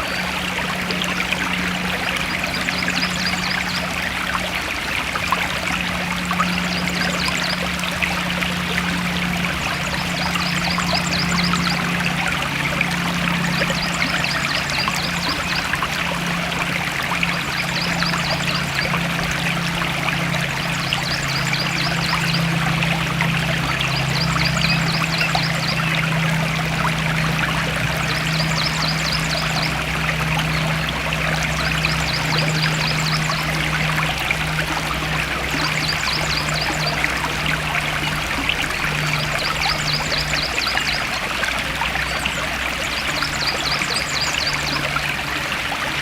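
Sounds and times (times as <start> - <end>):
stream flowing and trickling: 0.0 - 46.0.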